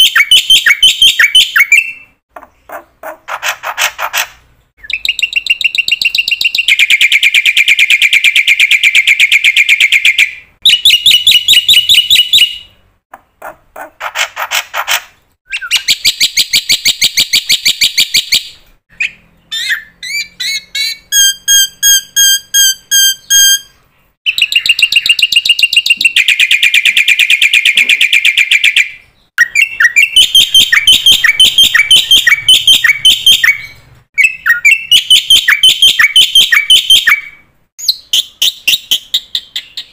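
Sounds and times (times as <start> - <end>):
songbird singing trills: 0.0 - 2.6, 4.8 - 12.8, 15.4 - 39.9.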